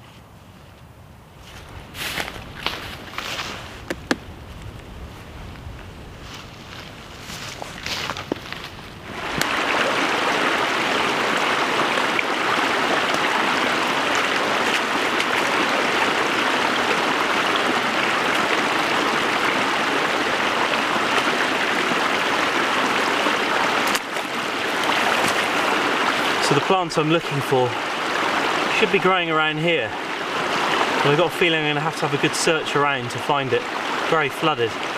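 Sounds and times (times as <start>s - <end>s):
stream splashing over cascade: 6.7s - 34.9s.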